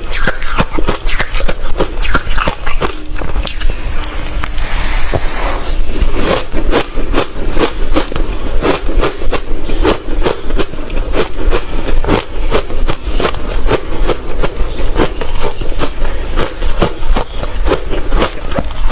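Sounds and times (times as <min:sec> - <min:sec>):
chewing crushed ice: 0:00.1 - 0:04.2, 0:06.1 - 0:18.9.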